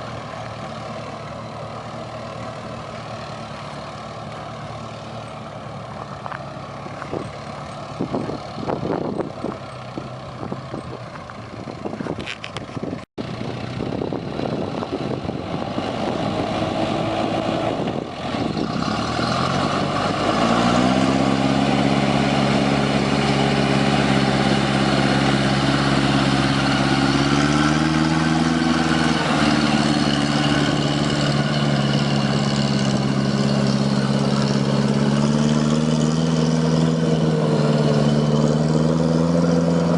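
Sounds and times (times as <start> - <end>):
truck engine running unevenly: 0.0 - 39.9.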